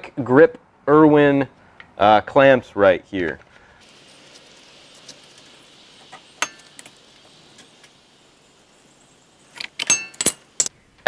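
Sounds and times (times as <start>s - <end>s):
low hiss: 0.0s - 11.0s.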